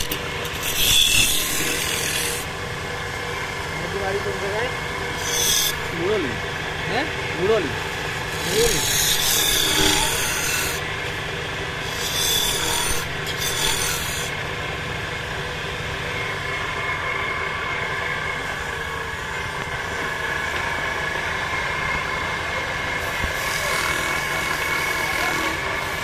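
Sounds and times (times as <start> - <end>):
wood lathe humming: 0.0 - 26.0.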